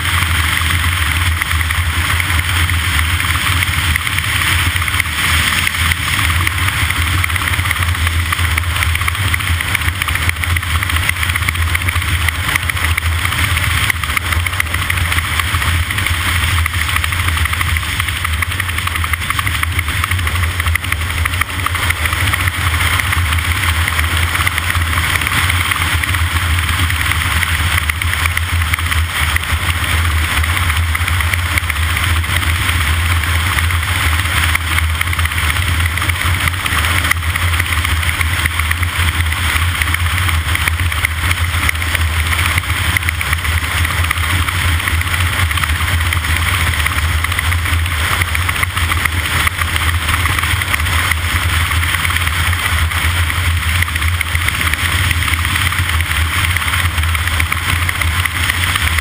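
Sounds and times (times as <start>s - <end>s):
engine droning steadily: 0.0s - 59.0s.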